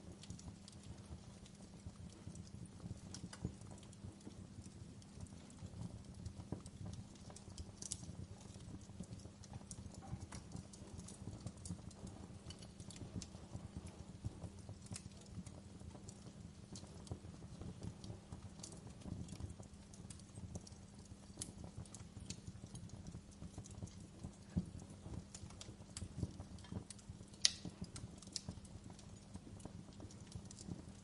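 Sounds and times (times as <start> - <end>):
low rumble of flames: 0.0 - 31.0
wood fire crackling: 0.0 - 31.0.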